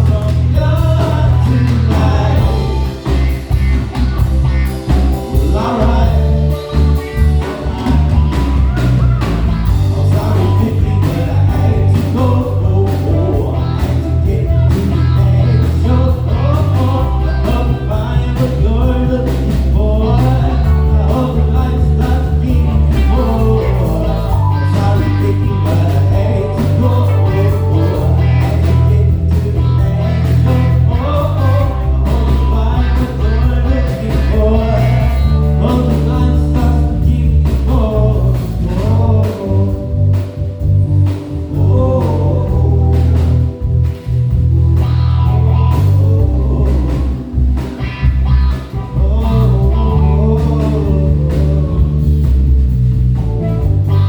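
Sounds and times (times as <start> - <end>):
live band playing soul music: 0.0 - 54.0.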